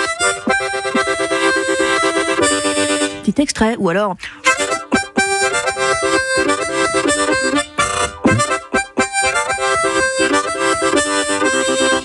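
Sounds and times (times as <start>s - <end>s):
harmonica playing: 0.0s - 3.2s, 4.4s - 12.0s.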